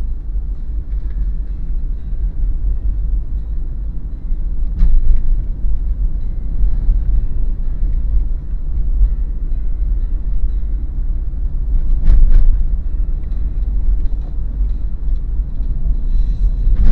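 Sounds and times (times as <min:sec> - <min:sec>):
car engine and road rumble: 0:00.0 - 0:16.9.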